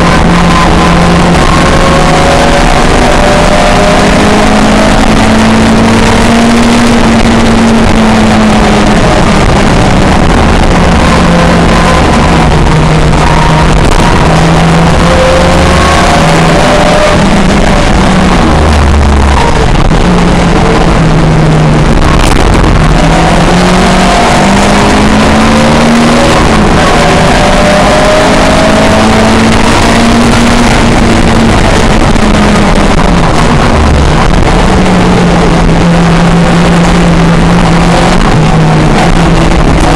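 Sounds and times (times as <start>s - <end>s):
loud steady rushing noise: 0.0s - 39.9s
race car engine at full throttle: 0.0s - 39.9s.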